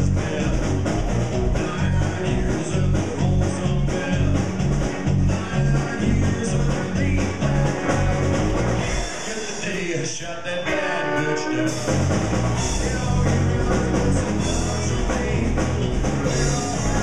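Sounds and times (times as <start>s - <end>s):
drums: 0.0s - 17.0s
electric guitar: 0.0s - 17.0s.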